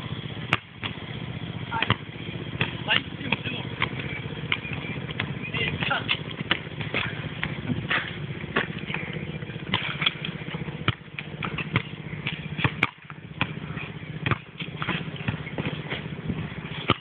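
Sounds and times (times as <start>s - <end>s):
basketballs bouncing: 0.0s - 17.0s
low engine-like hum: 0.0s - 17.0s.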